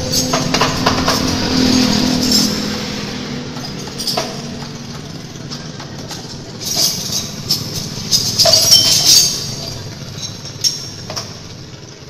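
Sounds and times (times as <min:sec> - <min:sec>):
metallic clinking and rattling: 0:00.0 - 0:12.0
scooter engine running: 0:00.0 - 0:12.0.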